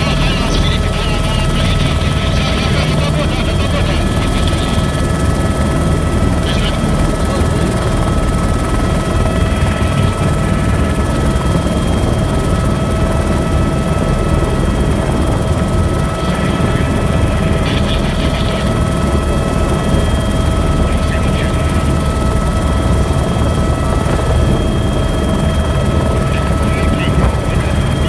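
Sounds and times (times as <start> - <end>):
constant high whine: 0.0 - 28.0
helicopter engine and rotor noise: 0.0 - 28.0.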